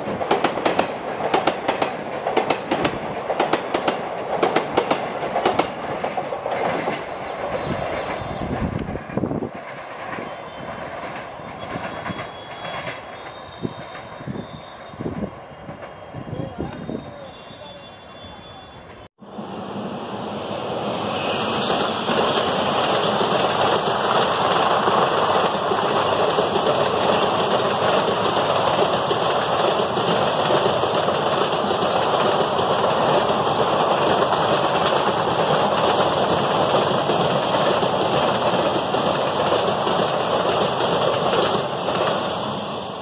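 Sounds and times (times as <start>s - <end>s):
train wheels clattering on rail: 0.0s - 14.3s, 21.4s - 42.4s.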